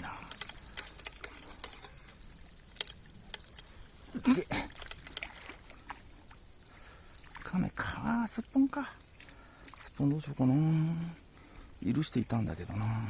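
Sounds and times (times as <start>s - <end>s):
fishing line clicks and rustles: 0.0s - 13.0s
high-pitched insect trill: 0.0s - 13.0s.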